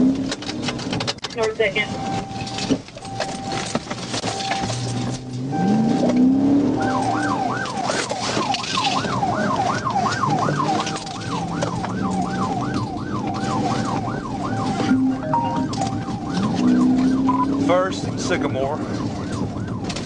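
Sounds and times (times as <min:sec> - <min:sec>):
police siren yelping: 0:01.7 - 0:20.0.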